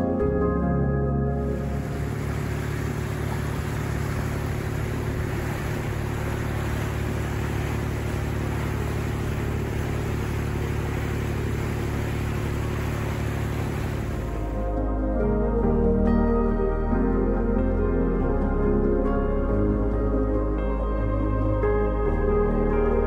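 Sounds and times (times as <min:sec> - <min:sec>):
diesel engine drone: 0:00.0 - 0:23.0
rushing boat wake: 0:01.3 - 0:23.0.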